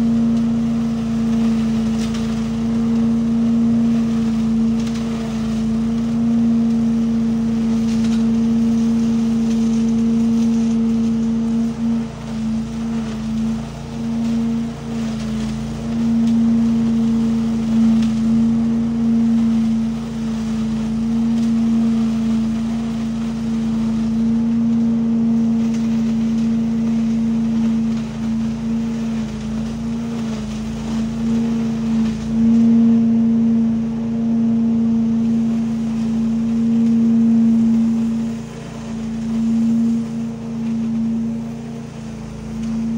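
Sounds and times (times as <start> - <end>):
leaf vacuum engine and fan drone: 0.0 - 42.9.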